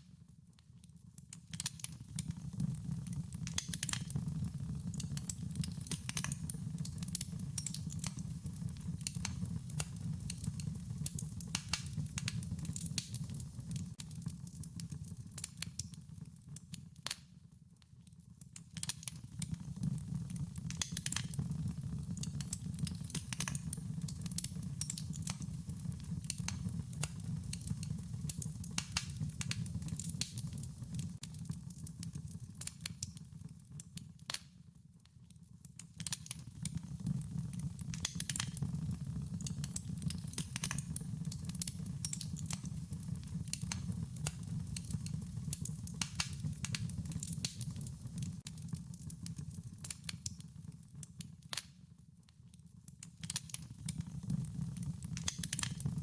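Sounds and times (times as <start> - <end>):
wood fire crackling: 0.3 - 17.2, 18.2 - 35.1, 35.8 - 51.7, 52.8 - 56.0.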